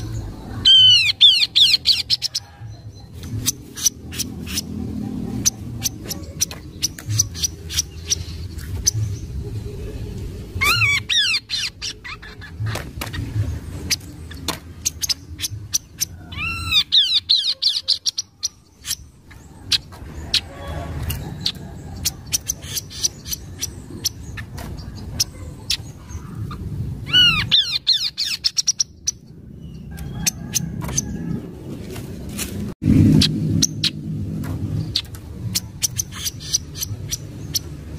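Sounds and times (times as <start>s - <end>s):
low background rumble: 0.0s - 37.9s.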